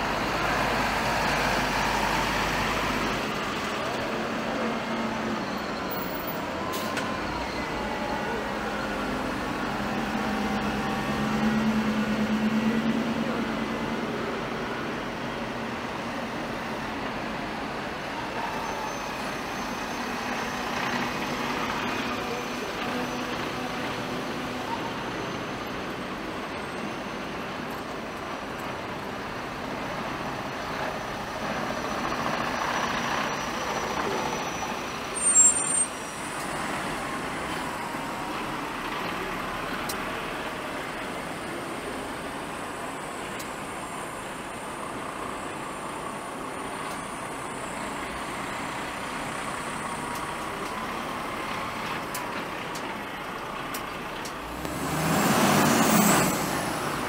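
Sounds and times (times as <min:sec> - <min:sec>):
heavy vehicles running: 0:00.0 - 0:57.0.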